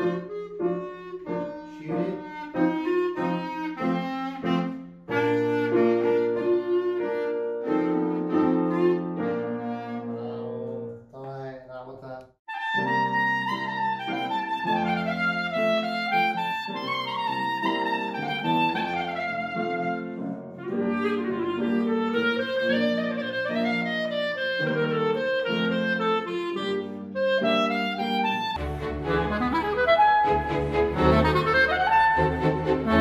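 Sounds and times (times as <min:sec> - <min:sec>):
clarinet melody: 0:00.0 - 0:11.0, 0:12.5 - 0:33.0
piano chords: 0:00.0 - 0:11.1, 0:12.5 - 0:33.0.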